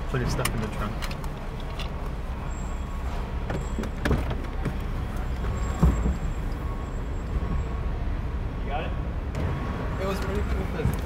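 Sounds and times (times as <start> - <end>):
low rumble of vehicles: 0.0 - 11.0.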